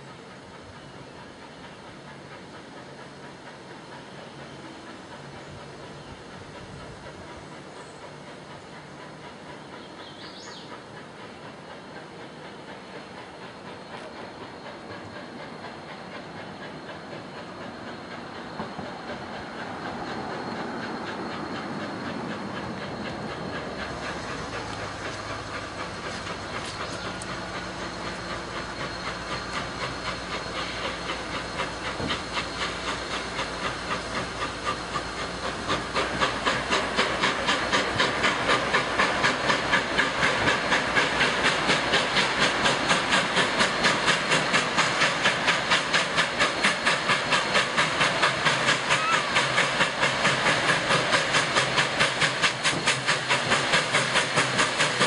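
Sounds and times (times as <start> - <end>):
steam locomotive exhaust chuffs: 0.0 - 55.0
steam locomotive rumble and hiss: 0.0 - 55.0.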